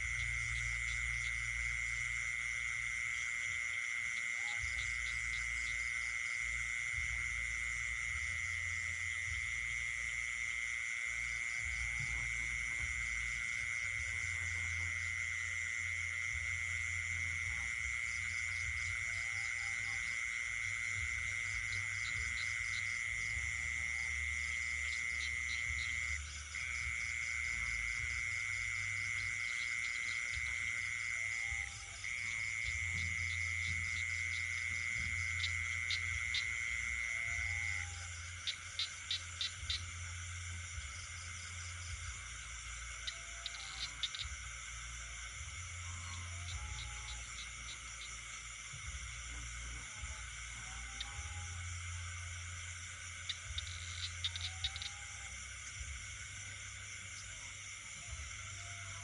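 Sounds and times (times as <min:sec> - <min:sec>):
fast pulsing insect calls: 0:00.0 - 0:59.0
high-pitched insect trill: 0:00.0 - 0:59.0
short frog calls: 0:00.0 - 0:59.0.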